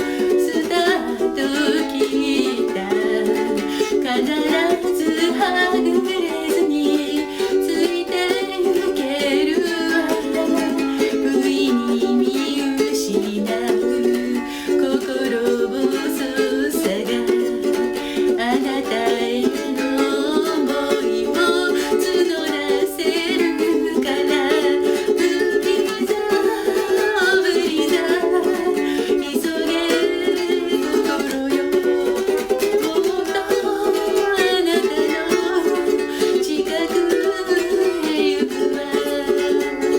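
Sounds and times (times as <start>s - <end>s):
person singing a pop ballad: 0.0s - 39.9s
ukulele strumming: 0.0s - 39.9s.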